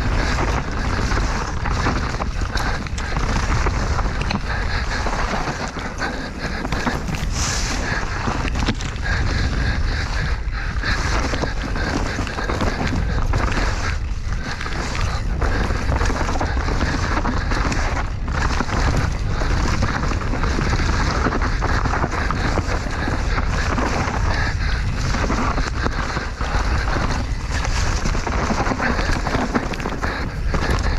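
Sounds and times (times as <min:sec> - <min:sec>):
bike knocks and rattles: 0:00.0 - 0:30.9
bike tyre noise: 0:00.0 - 0:30.9
wind rushing over microphone: 0:00.0 - 0:30.9.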